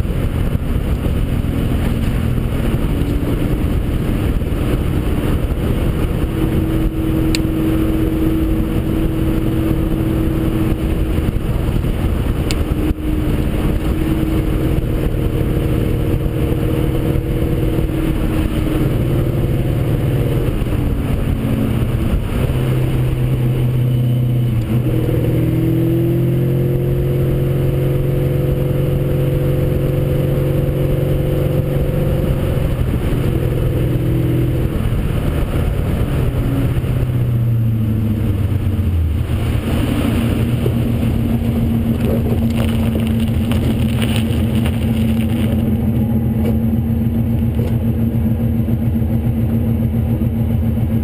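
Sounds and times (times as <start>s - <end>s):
car engine: 0.0s - 51.0s
road and wind noise: 0.0s - 51.0s.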